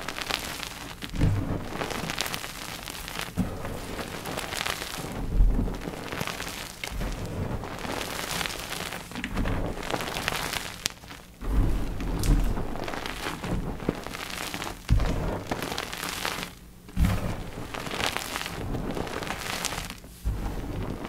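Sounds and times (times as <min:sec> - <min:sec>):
chalk crunching and crumbling: 0:00.0 - 0:21.0.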